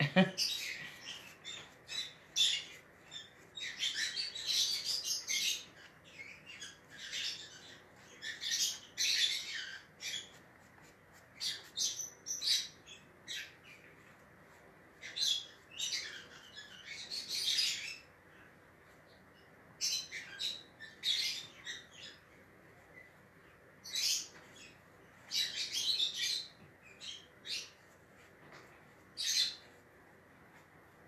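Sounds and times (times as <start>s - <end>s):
pet bird chirping: 0.2s - 14.0s, 15.0s - 18.2s, 19.4s - 23.2s, 23.8s - 27.9s, 29.1s - 29.8s.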